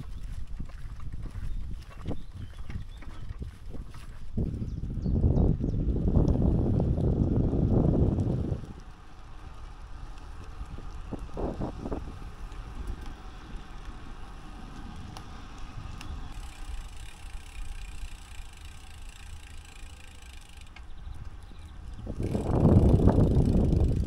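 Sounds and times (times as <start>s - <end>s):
bicycle tyres rumbling: 0.0s - 24.0s
wind buffeting microphone: 0.0s - 24.0s.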